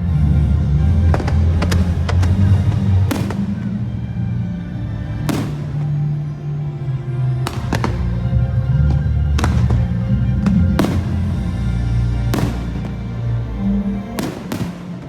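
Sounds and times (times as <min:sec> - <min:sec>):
orchestral music over loudspeakers: 0:00.0 - 0:15.0
fireworks bangs: 0:01.1 - 0:06.4, 0:07.3 - 0:15.0.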